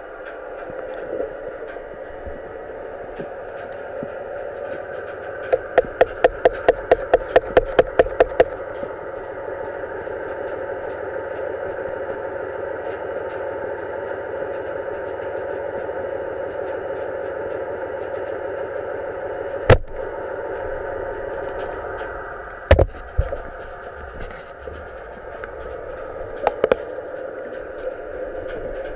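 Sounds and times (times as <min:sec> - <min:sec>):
underwater noise: 0:00.0 - 0:28.9.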